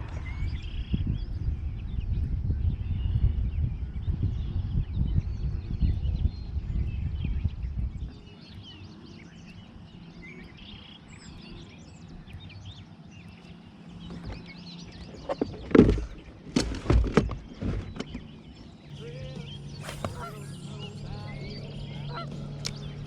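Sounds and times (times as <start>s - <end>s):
small birds chirping: 2.7s - 23.0s.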